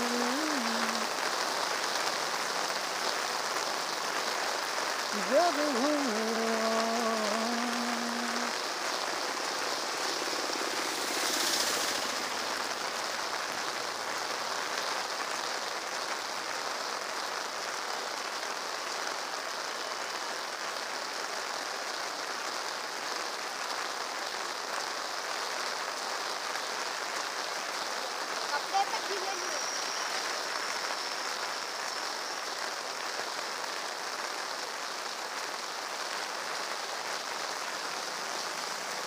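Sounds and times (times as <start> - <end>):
heavy rain on a wet road: 0.0 - 39.0.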